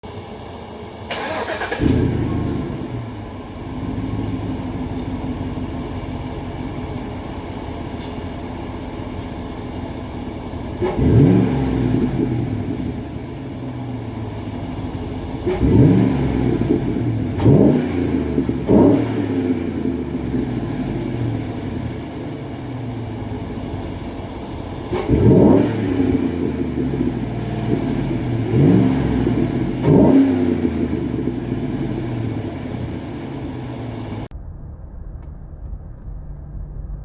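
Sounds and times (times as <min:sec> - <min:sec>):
car engine starting and revving: 0:00.2 - 0:37.0.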